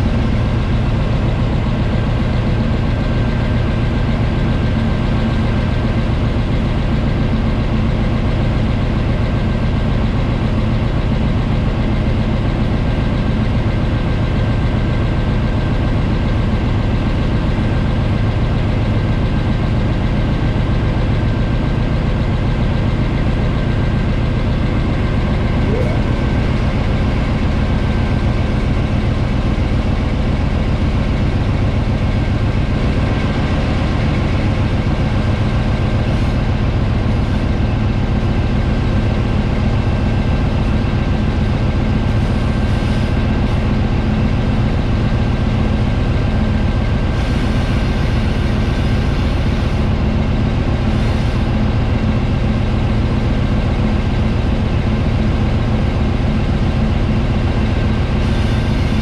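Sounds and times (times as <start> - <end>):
diesel locomotive engines running: 0.0 - 59.0.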